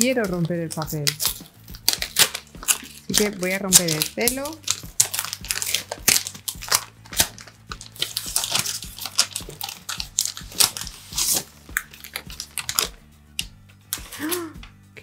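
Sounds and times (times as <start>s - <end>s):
paper crinkling and crackling: 0.0s - 13.0s.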